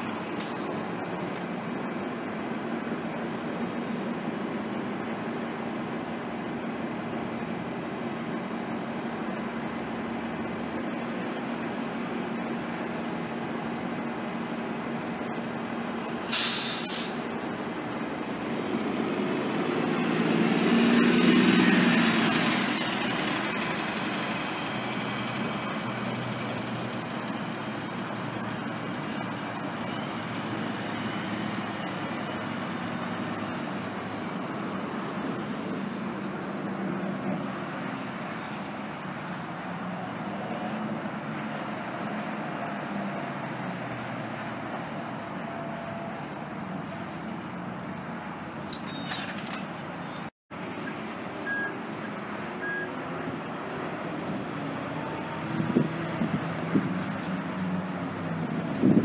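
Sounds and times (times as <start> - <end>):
bus pulling away: 0.0 - 59.0
drone of bus engines: 0.0 - 59.0.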